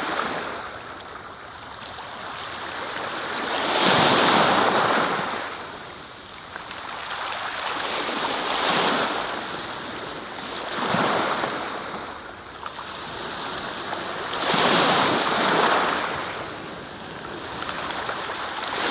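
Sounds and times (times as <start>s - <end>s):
waves washing in and receding: 0.0s - 18.9s.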